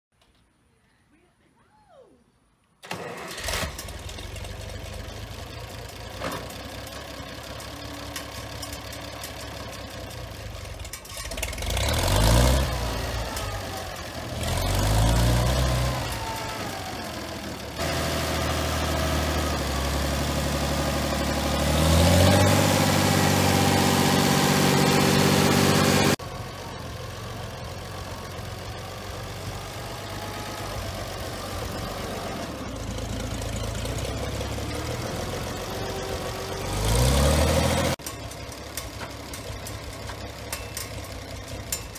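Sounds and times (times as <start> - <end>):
tractor engine idling and revving: 2.8 - 41.9.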